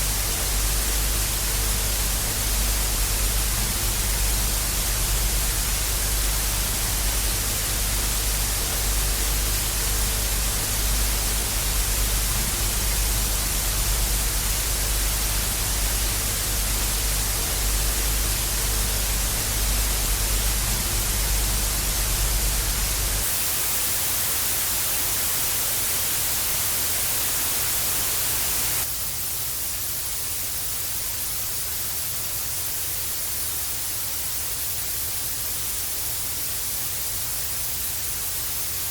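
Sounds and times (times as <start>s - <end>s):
tv static hiss: 0.0s - 38.9s.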